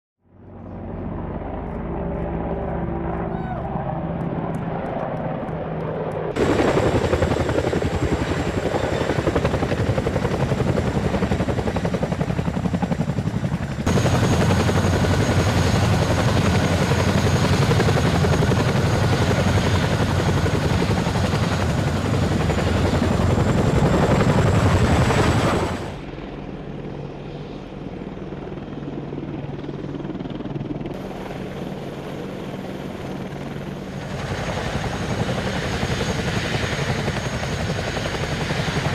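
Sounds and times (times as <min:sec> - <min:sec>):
helicopter idling on ground: 0:00.2 - 0:38.9
helicopters flying overhead: 0:00.2 - 0:38.9.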